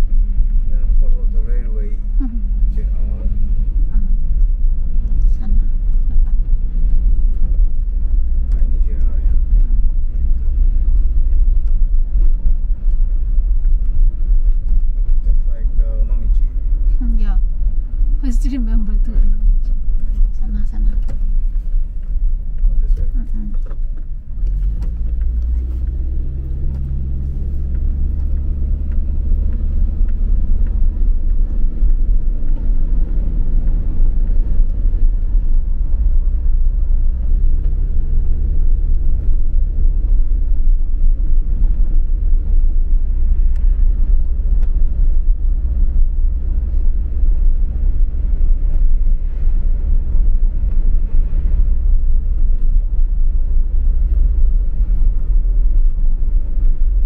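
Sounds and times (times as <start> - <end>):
car engine hum: 0.0 - 57.0
road noise rumble: 0.0 - 57.0.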